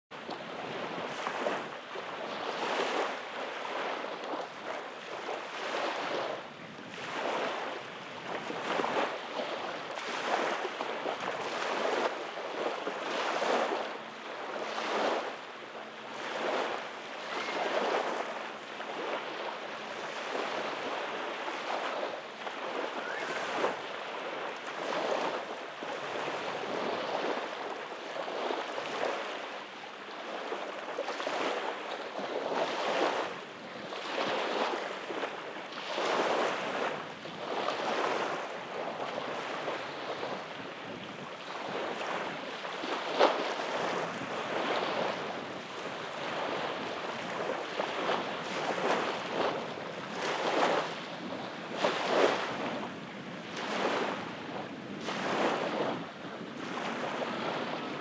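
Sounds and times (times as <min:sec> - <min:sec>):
waves washing up a sandy beach: 0:00.1 - 0:58.0.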